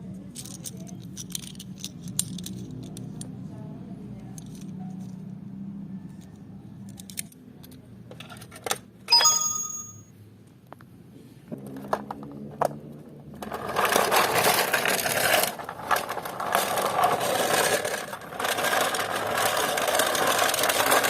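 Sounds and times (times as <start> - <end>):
toy cars clicking and clinking: 0.2 - 3.5, 4.1 - 5.4, 6.1 - 10.0, 11.6 - 21.0.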